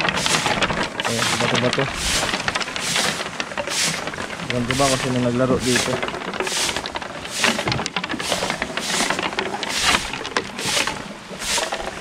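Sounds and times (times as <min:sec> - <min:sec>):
footsteps on stony ground: 0:00.0 - 0:12.0.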